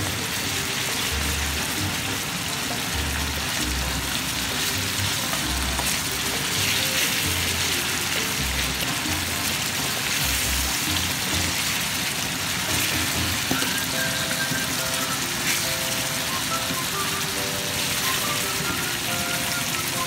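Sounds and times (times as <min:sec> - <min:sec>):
background music: 0:00.0 - 0:20.0
food sizzling in a frying pan: 0:00.0 - 0:20.0.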